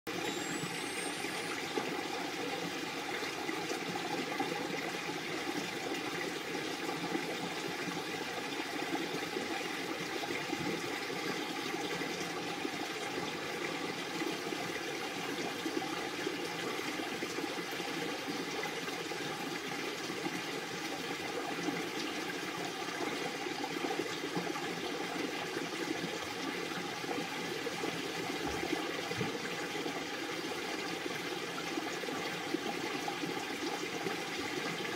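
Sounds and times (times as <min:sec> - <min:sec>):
flowing water rushing: 0:00.1 - 0:34.9.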